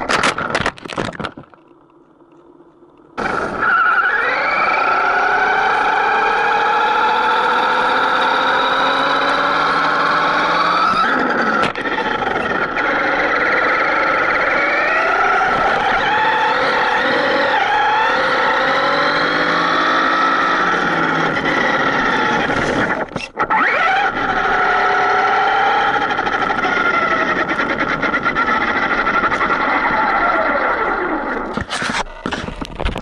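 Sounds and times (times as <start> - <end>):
electric motor whining: 3.2 - 32.4.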